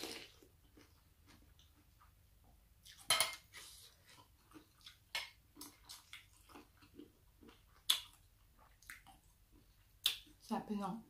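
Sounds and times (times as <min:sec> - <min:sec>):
person chewing and smacking: 0:00.0 - 0:10.4.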